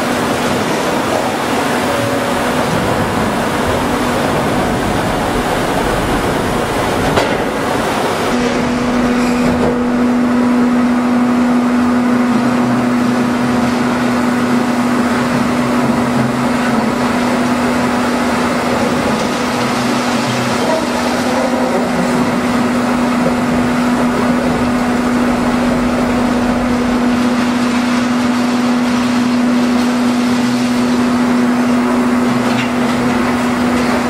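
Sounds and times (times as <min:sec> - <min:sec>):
excavator running: 0:00.0 - 0:34.0
fan blowing: 0:00.0 - 0:34.0
steady low hum: 0:00.0 - 0:34.0.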